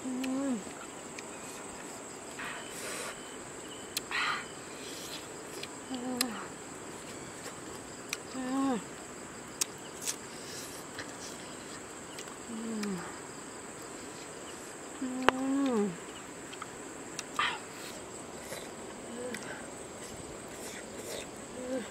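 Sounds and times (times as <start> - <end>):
crickets chirring: 0.0 - 21.9.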